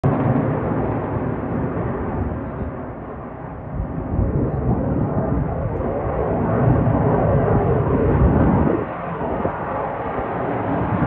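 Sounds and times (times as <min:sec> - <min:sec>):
jet engines passing overhead: 0:00.0 - 0:11.0.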